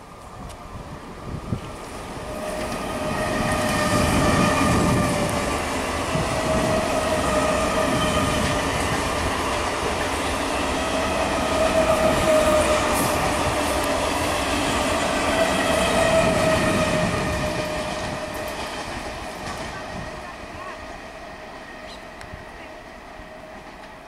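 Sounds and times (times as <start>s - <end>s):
train high whine: 0.0s - 24.0s
train wheels rumbling on rail: 0.0s - 24.0s.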